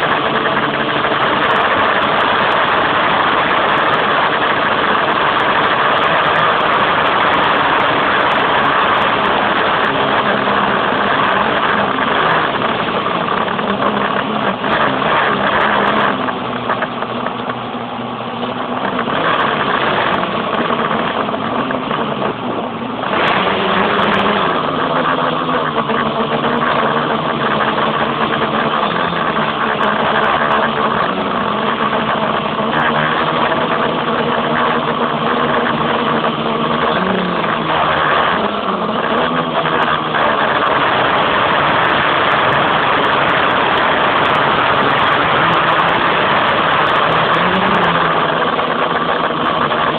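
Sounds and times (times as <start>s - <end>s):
quadcopter motors buzzing: 0.0s - 49.9s.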